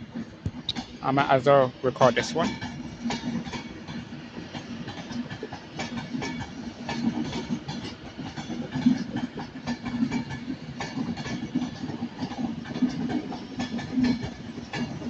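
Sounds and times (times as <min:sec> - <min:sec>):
train wheels clicking over rail joints: 0:00.1 - 0:15.0.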